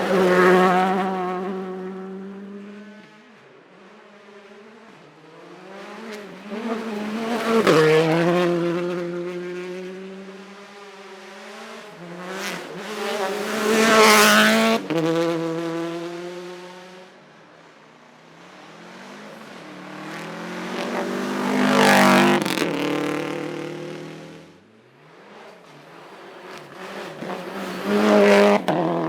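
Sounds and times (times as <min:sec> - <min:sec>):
rally cars passing at full throttle: 0:00.0 - 0:29.0.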